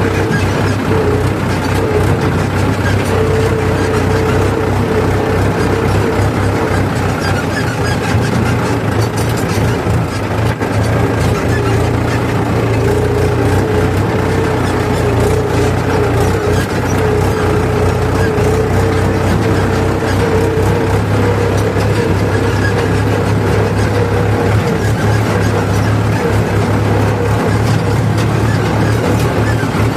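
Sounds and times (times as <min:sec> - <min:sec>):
diesel machinery engine running: 0:00.0 - 0:29.9.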